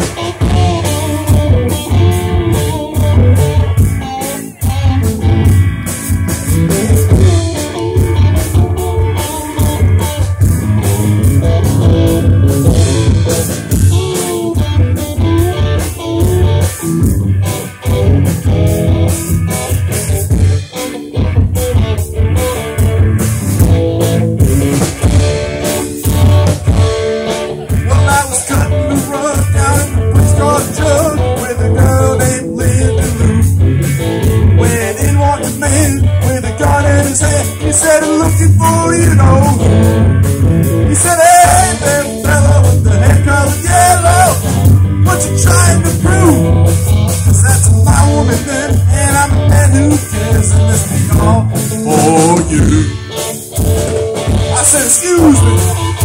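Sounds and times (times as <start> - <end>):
drum kit steady beat: 0.0 - 56.0
electric guitars: 0.0 - 56.0
live rock band: 0.0 - 56.0.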